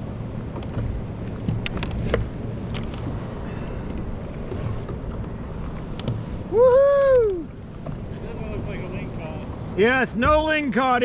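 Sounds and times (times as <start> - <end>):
wind rumbling on microphone: 0.0 - 10.7
water sloshing around kayak: 0.0 - 11.0.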